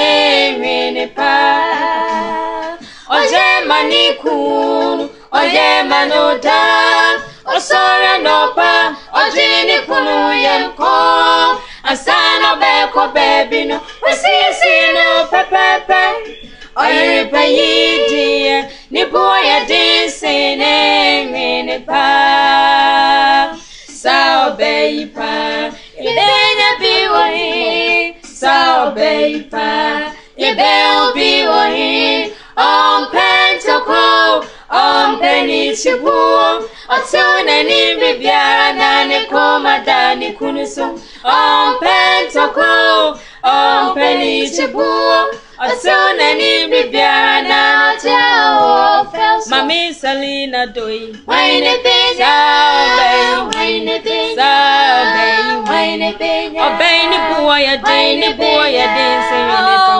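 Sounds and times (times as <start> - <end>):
women singing unaccompanied: 0.0 - 59.9.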